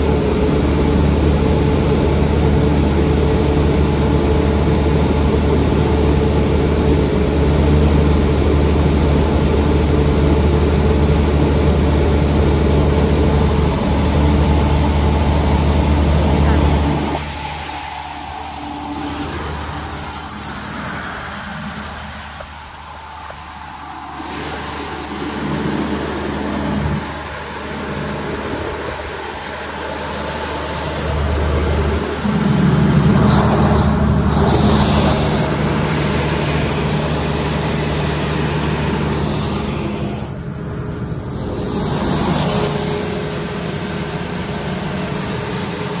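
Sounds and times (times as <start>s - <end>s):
diesel generator running: 0.0s - 46.0s.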